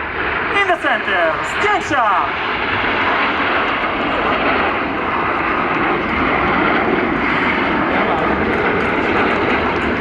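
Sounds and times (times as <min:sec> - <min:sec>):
jet engine noise: 0:00.0 - 0:10.0.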